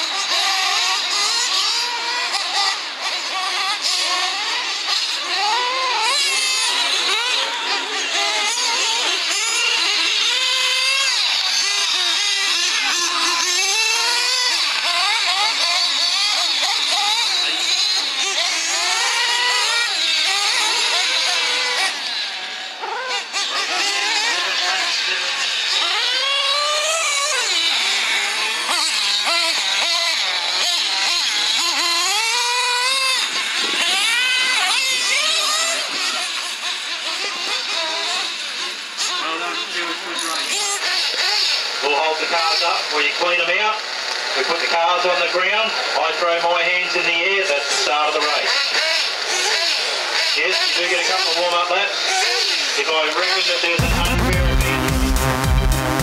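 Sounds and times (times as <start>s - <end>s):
rc buggy motors whining: 0.0s - 56.0s.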